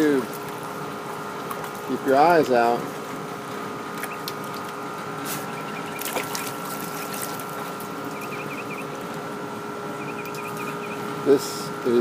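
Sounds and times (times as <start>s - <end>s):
water pump humming: 0.0s - 12.0s.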